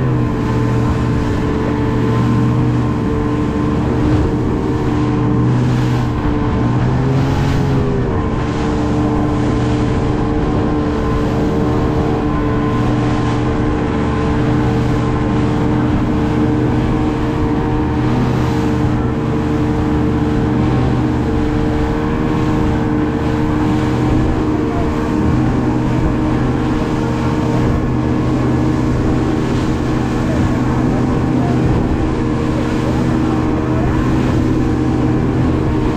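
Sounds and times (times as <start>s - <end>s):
motorboat engine droning: 0.0s - 35.9s
water rushing and spray: 0.0s - 35.9s.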